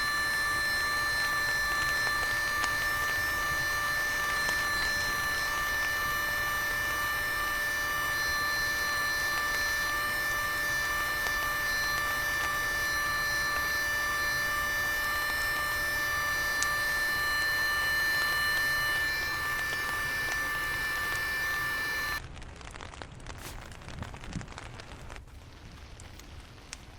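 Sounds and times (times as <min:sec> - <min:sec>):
steady tonal hum: 0:00.0 - 0:22.2.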